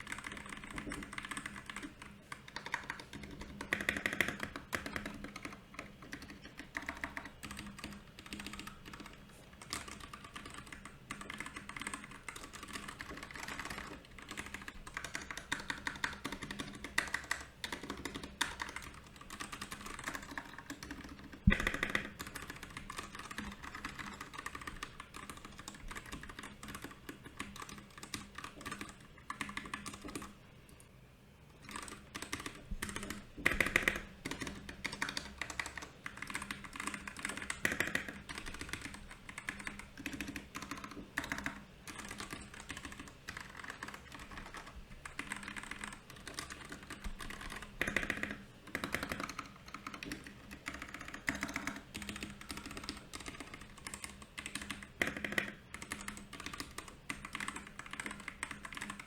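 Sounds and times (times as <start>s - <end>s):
mechanical keyboard typing: 0.0s - 30.8s, 31.6s - 59.0s.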